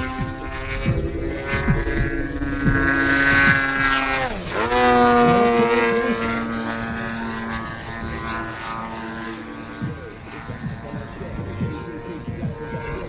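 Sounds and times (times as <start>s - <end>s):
model plane engine in flight: 0.0s - 13.0s.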